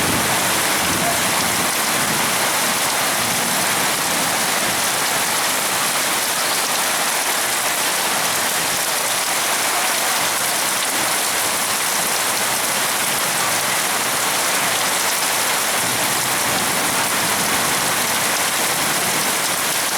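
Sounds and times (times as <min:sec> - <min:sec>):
heavy rain pouring: 0:00.0 - 0:19.9.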